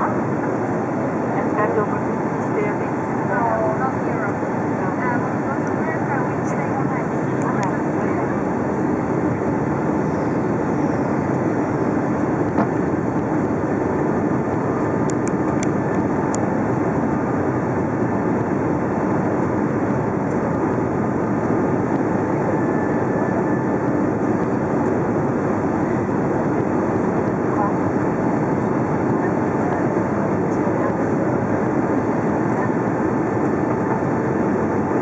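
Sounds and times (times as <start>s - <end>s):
airliner cabin noise: 0.0s - 35.0s.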